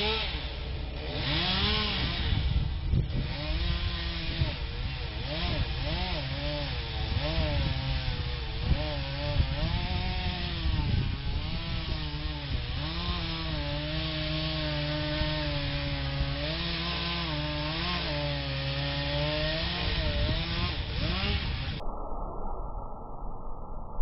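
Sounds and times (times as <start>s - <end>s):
chainsaw cutting wood: 0.0s - 21.8s.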